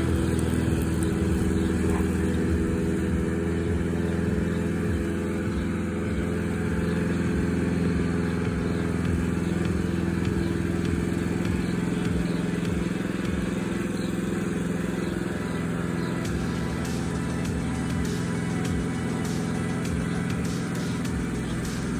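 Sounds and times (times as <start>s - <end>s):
lawn mower engine running: 0.0s - 21.9s.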